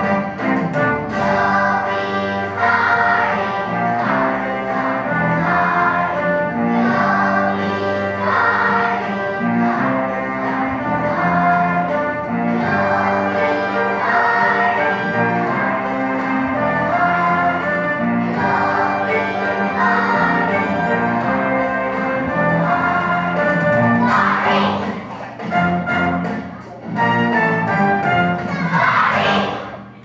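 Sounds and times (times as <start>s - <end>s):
children's choir singing: 0.0s - 30.0s
instrumental accompaniment: 0.0s - 30.0s.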